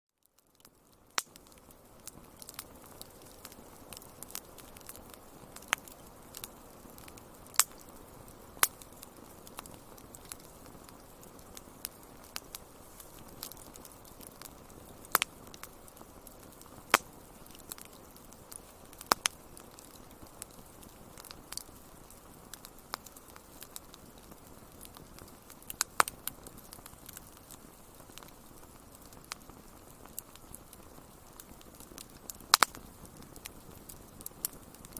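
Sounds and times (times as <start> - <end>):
wood fire crackling: 0.2 - 34.9.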